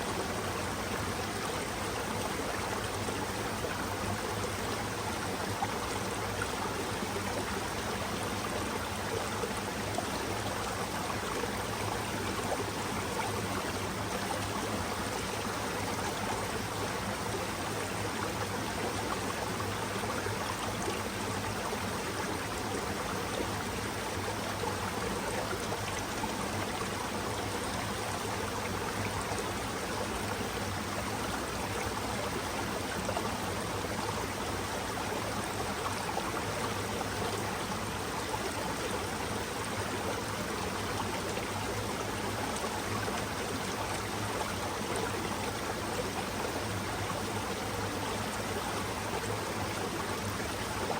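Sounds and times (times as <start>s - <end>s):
stream flowing over rocks: 0.0s - 50.9s.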